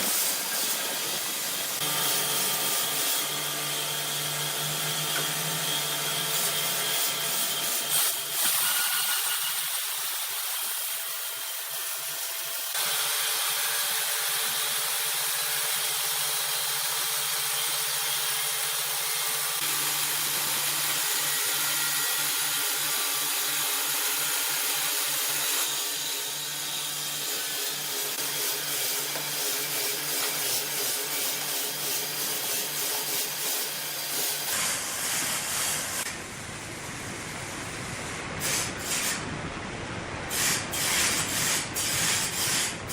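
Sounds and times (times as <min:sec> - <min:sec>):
sawmill machinery sawing timber: 0:00.0 - 0:36.2.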